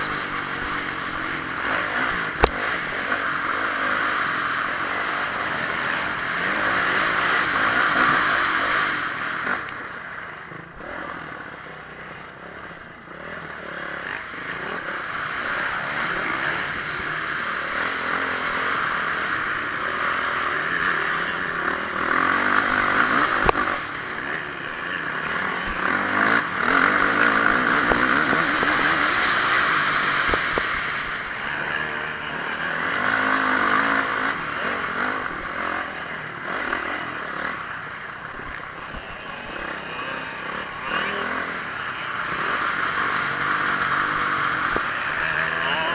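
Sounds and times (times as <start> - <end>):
motocross bike engine running hard: 0.0 - 45.9.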